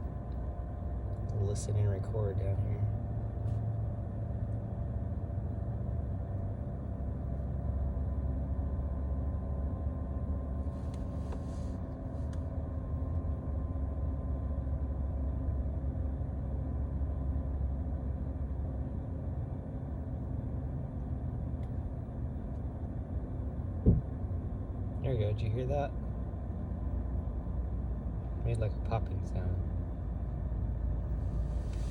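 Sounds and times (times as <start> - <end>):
low hum in car cabin: 0.0 - 31.9.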